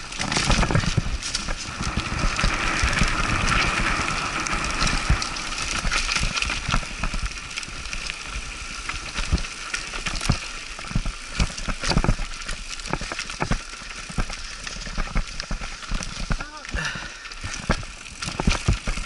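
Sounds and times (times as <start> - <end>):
bike knocking and rattling: 0.0 - 19.0
tyres crunching over gravel: 0.0 - 19.0.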